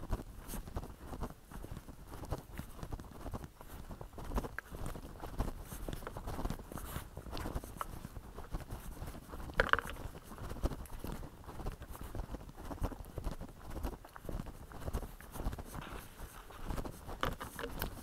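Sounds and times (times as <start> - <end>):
footsteps on muddy trail: 0.0 - 18.0.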